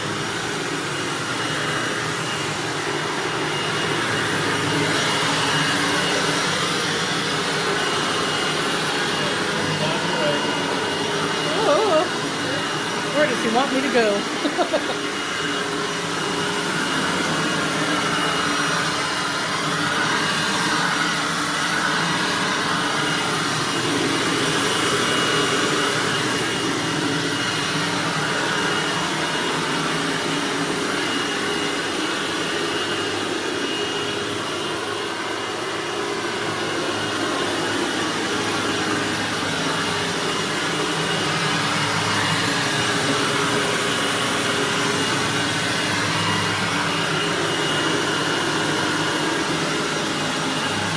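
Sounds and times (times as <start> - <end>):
upright vacuum running over carpet: 0.0 - 50.9.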